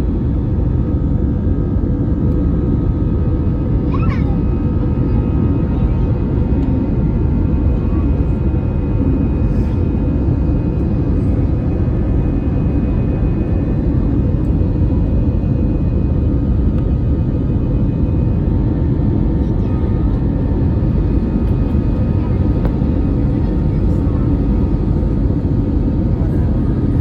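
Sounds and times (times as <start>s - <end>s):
airliner engines roaring in cabin: 0.0s - 27.0s.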